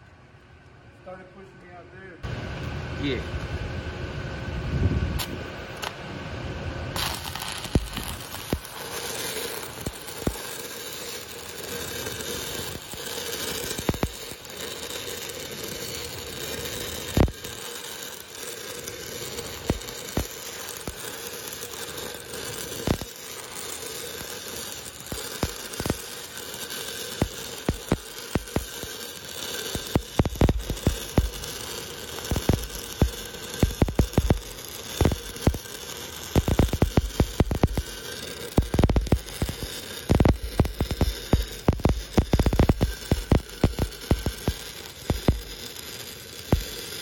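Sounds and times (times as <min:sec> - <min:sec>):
arc welding crackle and sizzle: 0:01.0 - 0:47.0
sharp welding pops: 0:05.2 - 0:06.0, 0:07.0 - 0:47.0.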